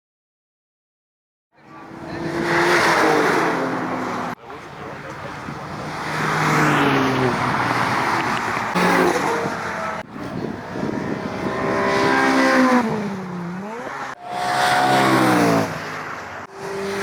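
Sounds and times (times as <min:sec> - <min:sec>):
car engine revving hard: 0:01.8 - 0:04.4, 0:05.5 - 0:17.0.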